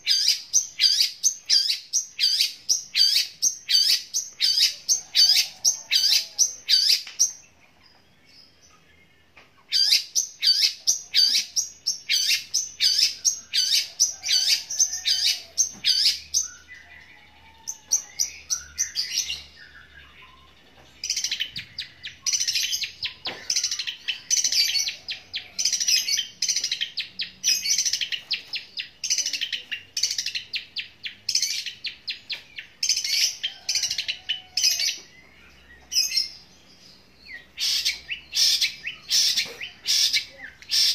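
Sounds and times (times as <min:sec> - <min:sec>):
bird singing harsh chirps: 0:00.0 - 0:08.9, 0:09.7 - 0:40.9.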